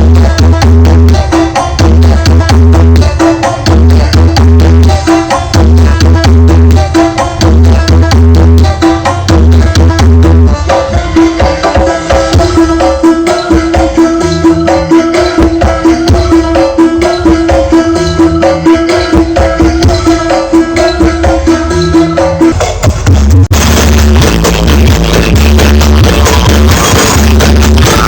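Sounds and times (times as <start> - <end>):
loud drum-driven music: 0.0 - 28.0.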